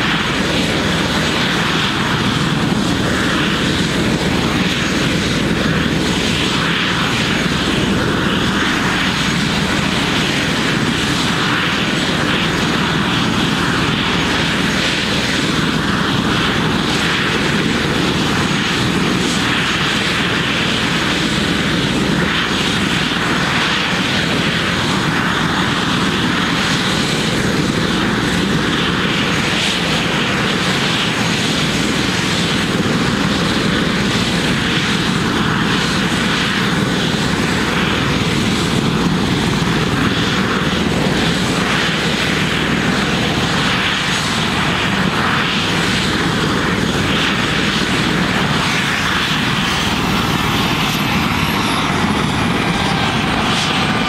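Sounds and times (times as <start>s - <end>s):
helicopter turbine whine and rotor: 0.0s - 54.0s.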